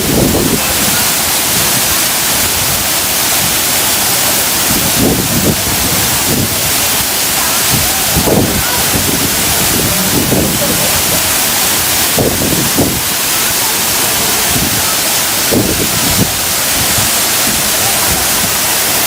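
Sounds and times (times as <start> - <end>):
waterfall rushing: 0.0 - 19.0
voices: 0.1 - 19.0.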